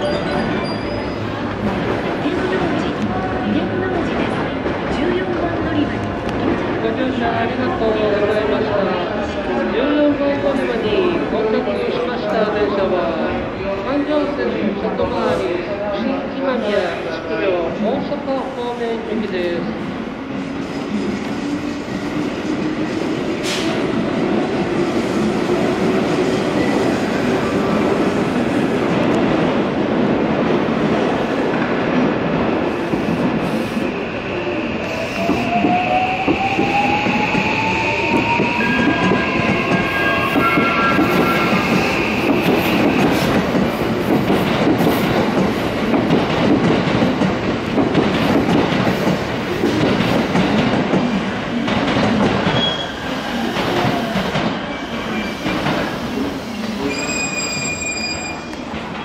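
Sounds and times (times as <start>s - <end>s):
train wheels on rails: 0.0s - 11.3s, 17.7s - 59.0s.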